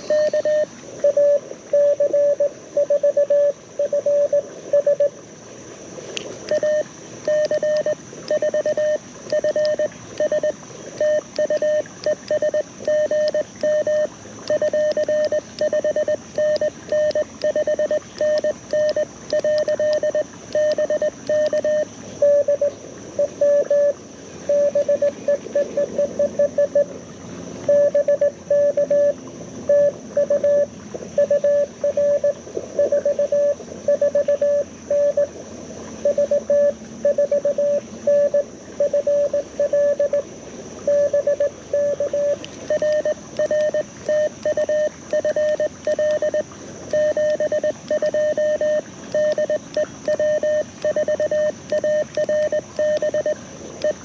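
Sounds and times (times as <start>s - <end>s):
morse code tones from speaker: 0.0s - 5.1s, 6.5s - 26.9s, 27.7s - 35.3s, 36.0s - 40.2s, 40.9s - 54.0s.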